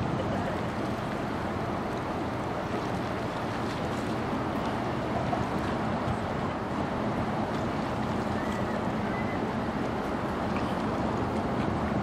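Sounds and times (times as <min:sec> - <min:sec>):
ship engine drone: 0:00.0 - 0:12.0
water rushing along hull: 0:00.0 - 0:12.0.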